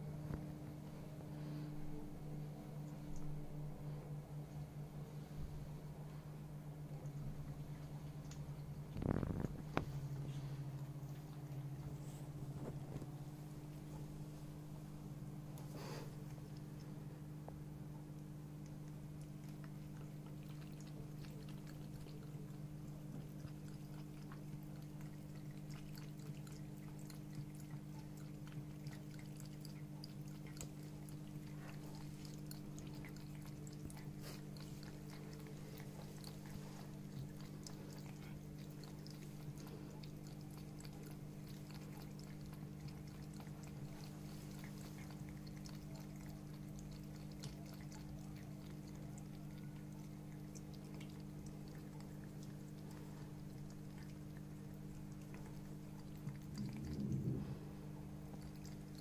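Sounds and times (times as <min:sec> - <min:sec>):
pump humming: 0:00.0 - 0:59.0
cat lapping water: 0:00.4 - 0:59.0
water trickling: 0:06.9 - 0:59.0.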